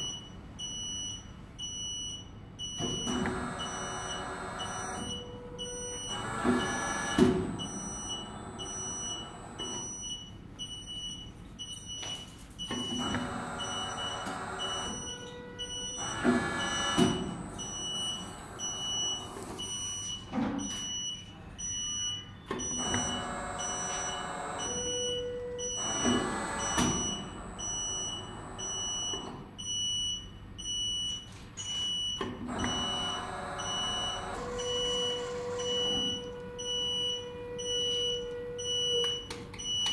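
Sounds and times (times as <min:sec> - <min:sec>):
warning buzzer beeping: 0:00.0 - 0:11.2, 0:12.0 - 0:39.9.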